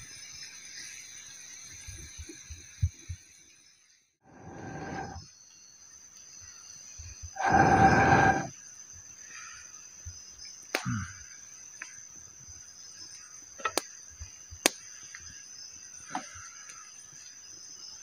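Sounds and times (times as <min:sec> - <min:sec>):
night insects droning: 0:00.0 - 0:18.0.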